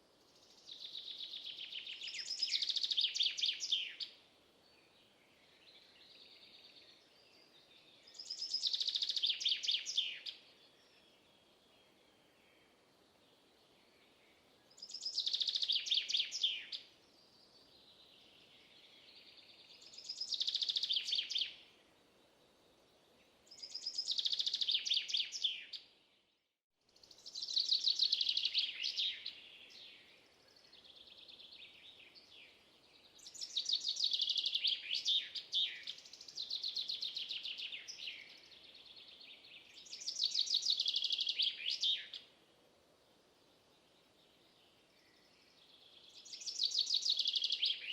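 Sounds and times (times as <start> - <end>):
songbird singing: 0.0 - 47.9
faint bird twittering: 0.3 - 12.8, 13.6 - 21.8, 23.5 - 25.9, 27.0 - 42.3, 44.1 - 47.9.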